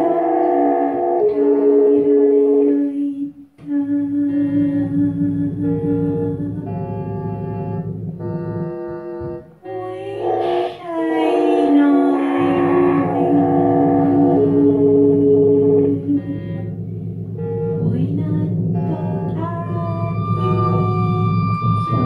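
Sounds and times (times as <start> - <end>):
long held synth notes: 0.0 - 22.0
low buzzing drone: 0.0 - 22.0.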